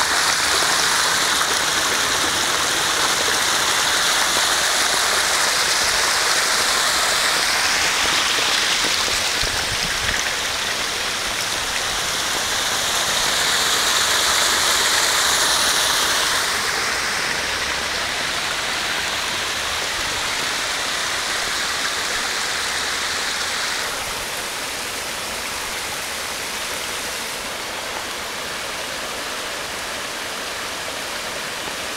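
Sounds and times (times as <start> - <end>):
water gushing from manhole: 0.0 - 31.9.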